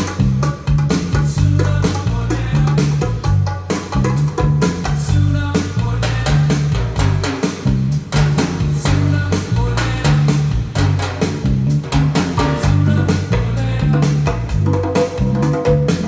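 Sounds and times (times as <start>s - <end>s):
bass line: 0.0s - 16.0s
drum kit: 0.0s - 16.0s.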